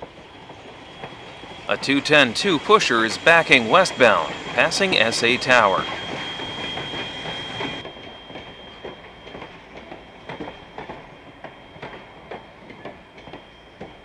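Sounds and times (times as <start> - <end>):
steam locomotive moving slowly: 0.0 - 14.0.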